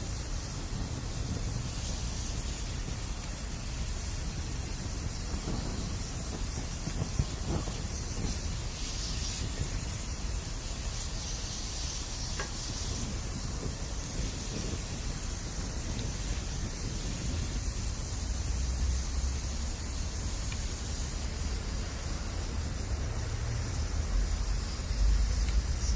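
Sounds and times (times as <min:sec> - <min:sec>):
bamboo hissing in fire: 0:00.0 - 0:25.9
fire crackling: 0:00.0 - 0:25.9.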